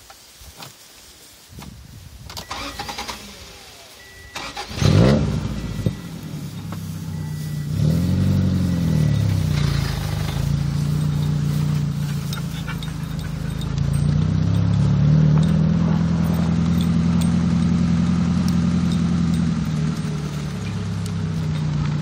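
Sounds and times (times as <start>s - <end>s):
motor engine starting and revving: 2.4s - 22.0s.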